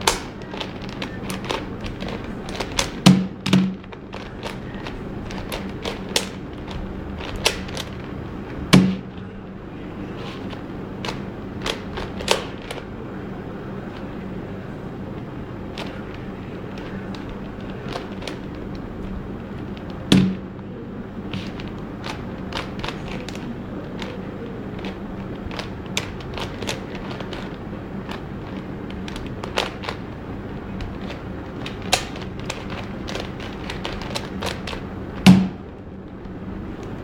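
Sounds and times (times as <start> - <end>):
puzzle cube plastic clicks: 0.0 - 9.2, 10.0 - 12.9, 15.6 - 37.0.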